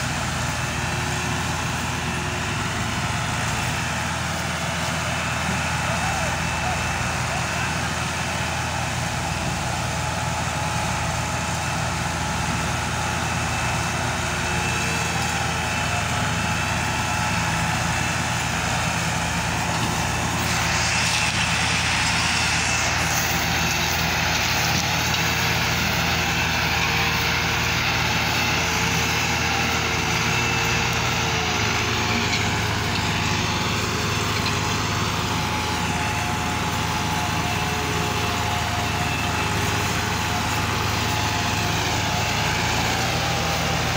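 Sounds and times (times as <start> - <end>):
second tractor engine running: 0.0 - 43.9
tractor diesel engine straining: 0.0 - 43.9.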